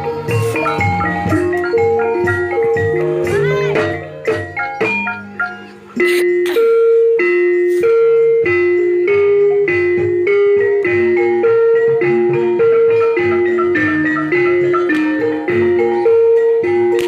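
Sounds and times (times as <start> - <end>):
gamelan mallet melody: 0.0 - 17.0.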